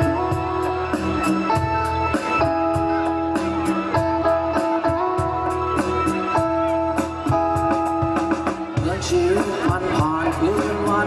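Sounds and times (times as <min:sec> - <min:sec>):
electric guitar melody: 0:00.0 - 0:11.0
rock band playing: 0:00.0 - 0:11.0.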